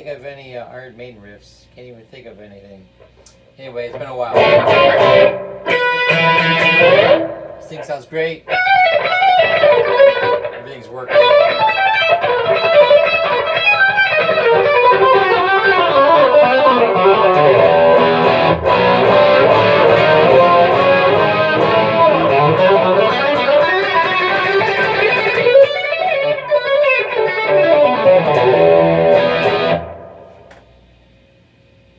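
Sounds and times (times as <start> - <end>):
electric guitar riffs: 3.9 - 30.6.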